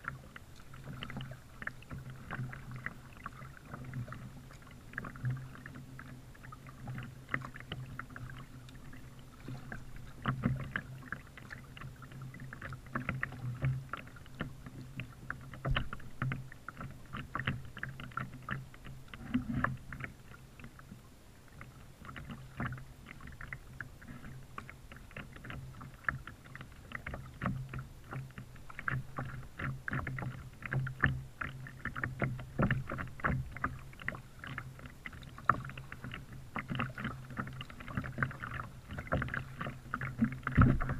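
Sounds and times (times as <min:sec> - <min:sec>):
paddle splashes and drips: 0:00.0 - 0:40.9
water lapping at plastic hull: 0:00.0 - 0:40.9.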